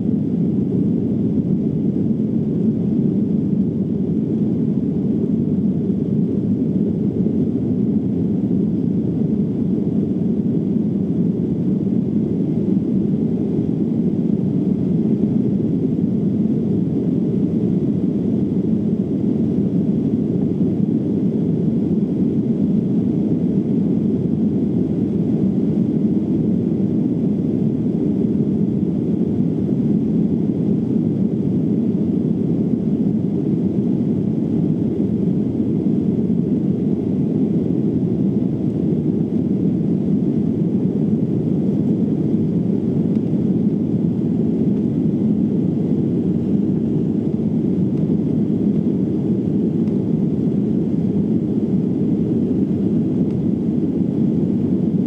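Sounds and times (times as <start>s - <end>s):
airliner cabin noise in flight: 0.0s - 55.0s.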